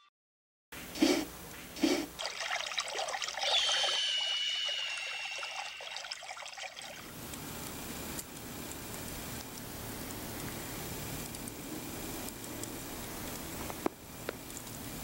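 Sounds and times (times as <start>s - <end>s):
outdoor hiss: 0.8s - 15.0s
dense crackling with high tone: 2.2s - 14.8s.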